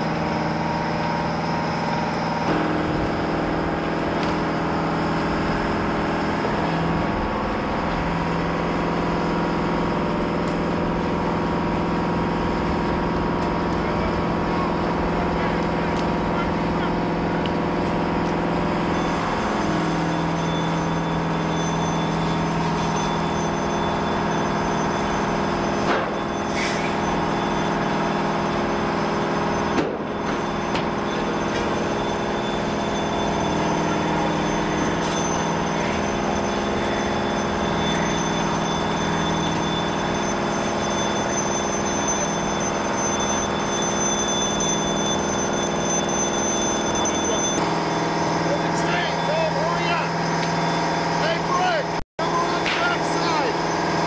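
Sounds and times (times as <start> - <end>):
large vehicle engine running: 0.0 - 54.0.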